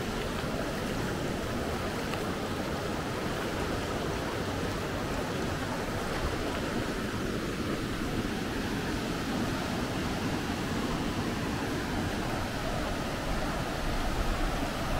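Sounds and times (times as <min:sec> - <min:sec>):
creek water rushing over rocks: 0:00.0 - 0:14.9.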